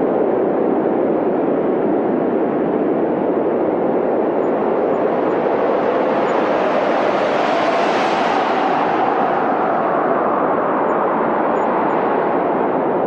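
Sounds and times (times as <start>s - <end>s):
loud rushing wind: 0.0s - 13.0s.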